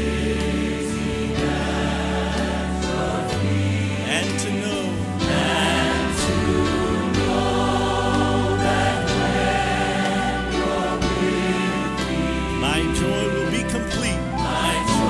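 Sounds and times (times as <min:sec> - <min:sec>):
gospel choir singing: 0:00.0 - 0:15.0
instrumental accompaniment: 0:00.0 - 0:15.0.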